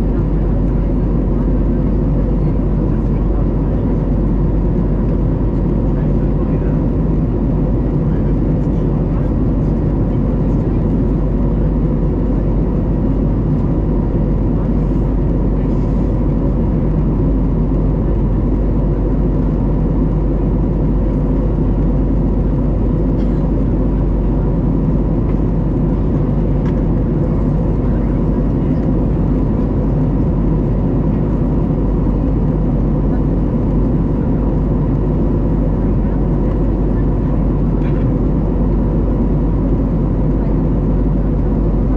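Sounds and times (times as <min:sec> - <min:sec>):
constant humming tones: 0:00.0 - 0:41.9
jet engines droning: 0:00.0 - 0:41.9.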